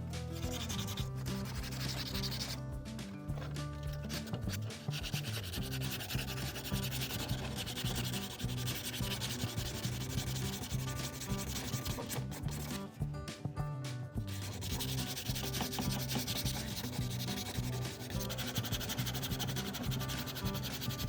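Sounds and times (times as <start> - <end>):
background music with low notes: 0.0 - 21.0
sandpaper rubbing on hard surface: 0.3 - 2.6, 3.4 - 12.9, 14.3 - 21.0.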